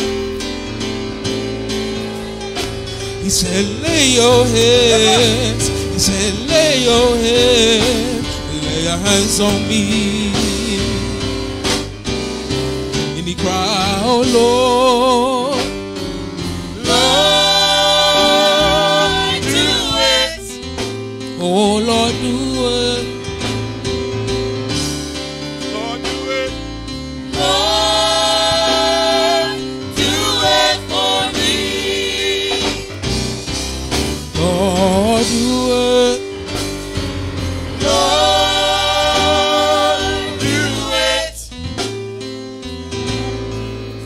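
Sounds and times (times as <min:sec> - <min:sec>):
gospel group singing: 0:00.0 - 0:12.0, 0:13.1 - 0:23.2, 0:25.8 - 0:42.0
instrumental accompaniment: 0:00.0 - 0:44.0.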